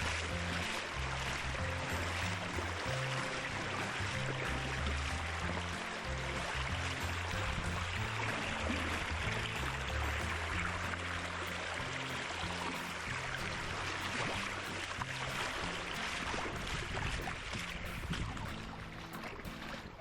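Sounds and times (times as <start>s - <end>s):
background music: 0.0s - 20.0s
running water rushing: 0.0s - 20.0s.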